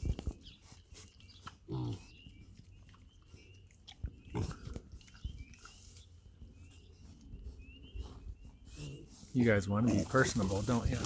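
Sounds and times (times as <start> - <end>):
piglets grunting and snuffling: 0.0 - 11.0.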